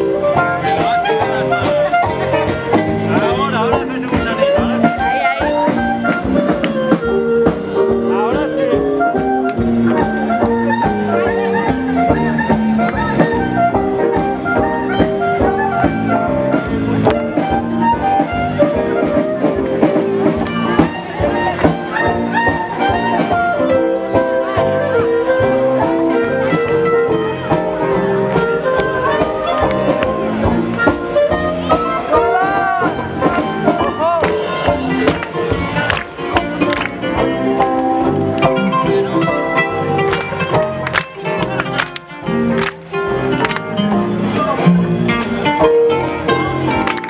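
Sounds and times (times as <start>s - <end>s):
swing jazz instrumental: 0.0s - 47.0s.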